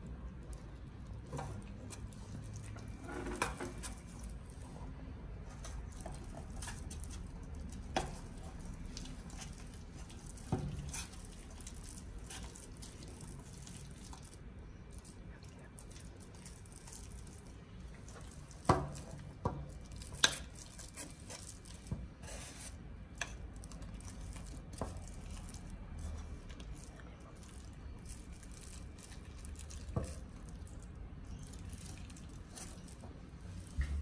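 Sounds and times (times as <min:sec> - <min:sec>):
slime squishing and crackling: 0:00.0 - 0:34.0.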